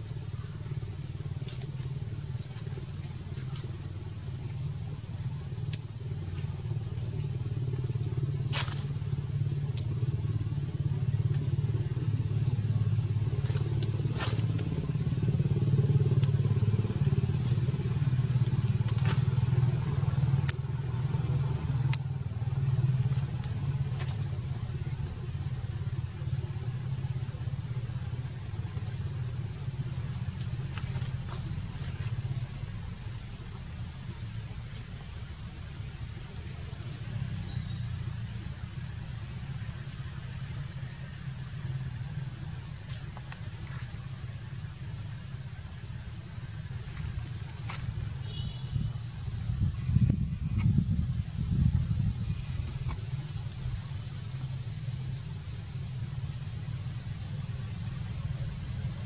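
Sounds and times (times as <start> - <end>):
low engine drone: 0.0 - 59.0.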